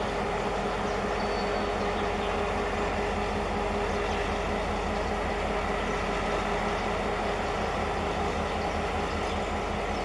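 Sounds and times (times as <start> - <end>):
locomotive engine idling: 0.0 - 10.0.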